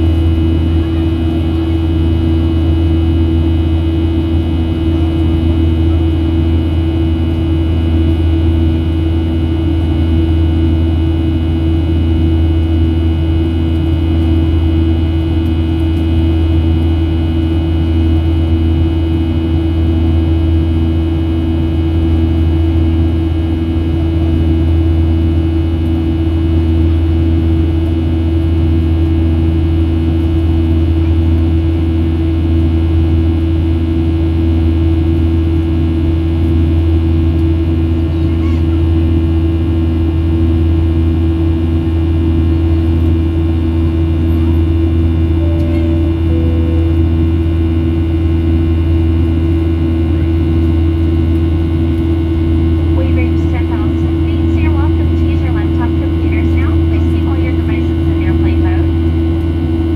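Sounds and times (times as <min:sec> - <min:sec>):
airplane cabin drone: 0:00.0 - 0:59.9
pulsing tone in hum: 0:00.0 - 0:59.9.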